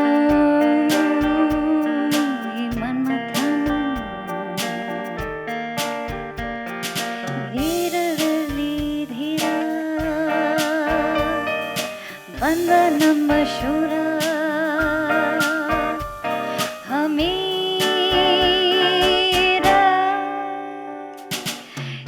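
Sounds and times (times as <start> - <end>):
drum strikes: 0.0 - 19.9, 21.3 - 22.0
guitar: 0.0 - 22.0.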